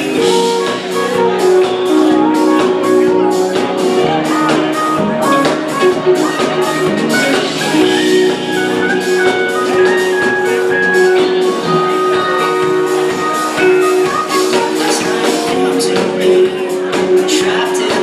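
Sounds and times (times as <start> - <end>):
drum kit and cymbals: 0.0 - 18.0
electric guitar: 0.0 - 18.0.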